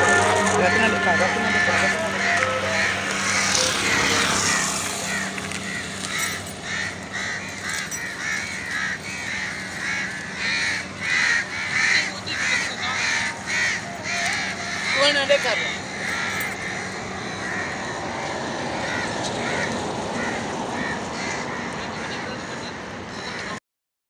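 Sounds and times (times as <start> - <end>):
crow cawing: 0.0 - 23.6.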